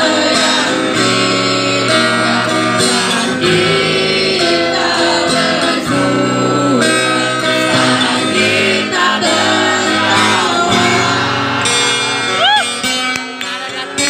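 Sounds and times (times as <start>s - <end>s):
woman singing: 0.0s - 11.4s
acoustic guitar: 0.0s - 14.0s.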